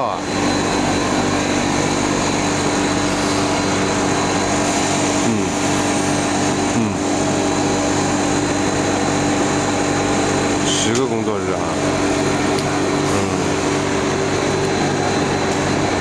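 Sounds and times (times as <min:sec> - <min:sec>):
constant whine: 0:00.0 - 0:16.0
machine hum: 0:00.0 - 0:16.0.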